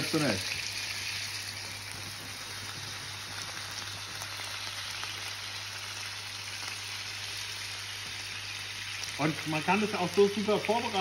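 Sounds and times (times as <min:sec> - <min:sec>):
fish sizzling in frying pan: 0:00.0 - 0:11.0.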